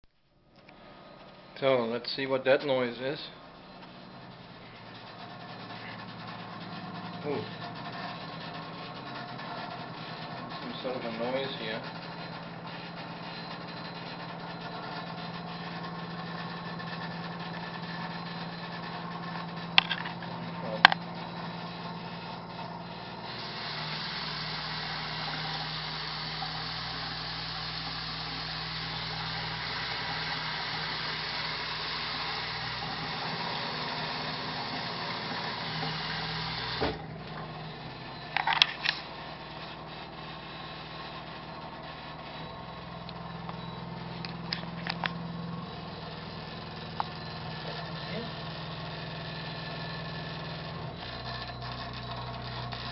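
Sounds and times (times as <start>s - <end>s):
rattling motor hum: 0.5s - 52.9s.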